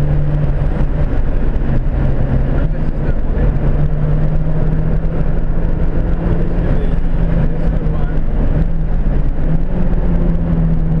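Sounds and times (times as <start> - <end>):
car engine at speed: 0.0 - 11.0
road and wind noise: 0.0 - 11.0.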